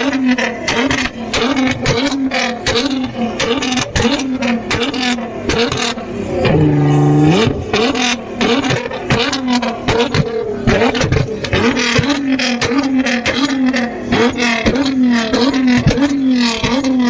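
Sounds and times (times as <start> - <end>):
exhaust pops and cracks: 0.0 - 6.7, 7.3 - 17.0
sports car engine revving: 0.0 - 17.0.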